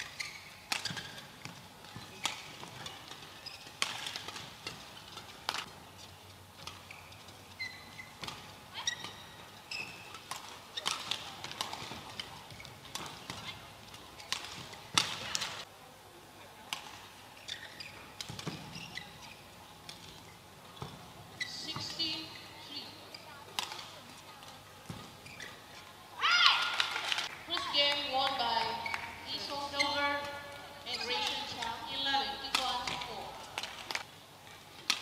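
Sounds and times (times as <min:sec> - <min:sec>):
court shoes squeaking: 0:00.0 - 0:15.7, 0:16.7 - 0:35.0.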